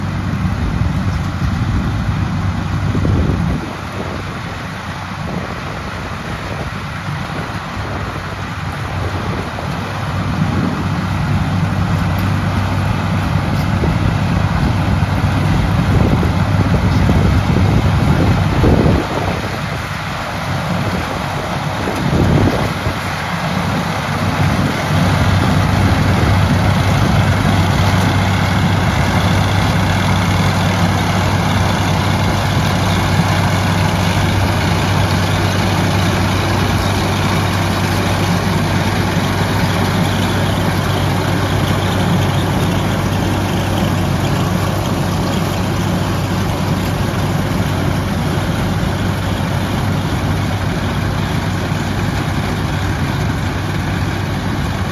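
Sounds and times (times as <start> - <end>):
heavy engine droning: 0.0 - 54.9.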